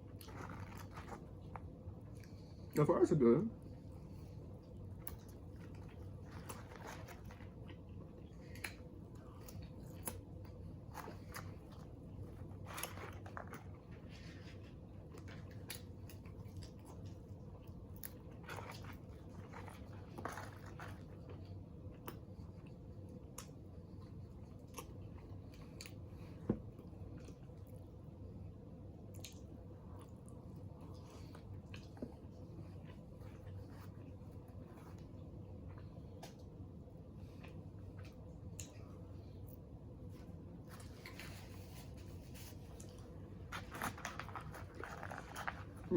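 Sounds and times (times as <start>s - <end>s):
chewing french fries: 0.0s - 45.9s
steady low hum: 0.0s - 45.9s.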